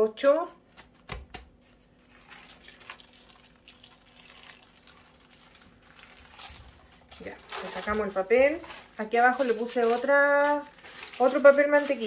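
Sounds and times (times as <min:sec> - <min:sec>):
parchment paper rustling: 0:01.6 - 0:12.0.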